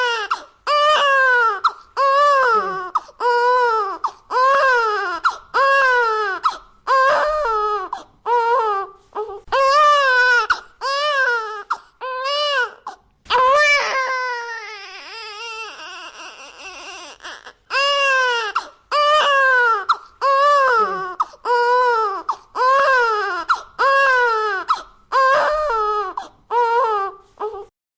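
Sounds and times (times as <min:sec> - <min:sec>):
cartoon baby crying wails: 0:00.0 - 0:08.8, 0:09.6 - 0:27.7.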